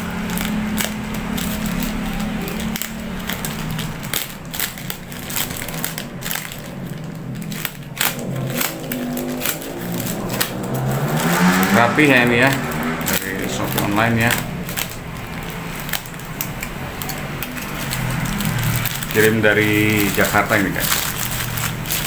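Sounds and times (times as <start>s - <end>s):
plastic bag crinkling and tearing: 0.0s - 22.0s.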